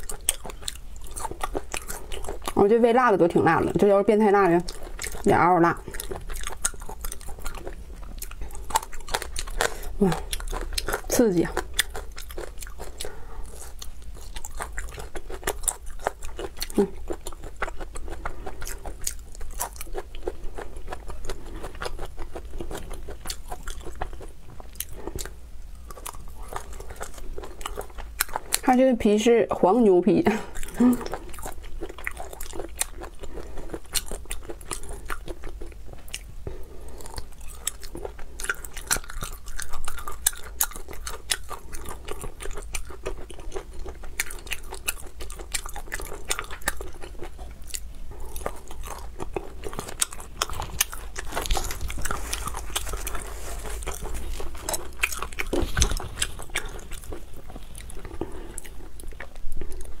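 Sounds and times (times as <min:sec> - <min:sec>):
crunchy chewing: 0:00.0 - 0:28.7, 0:30.4 - 1:00.0.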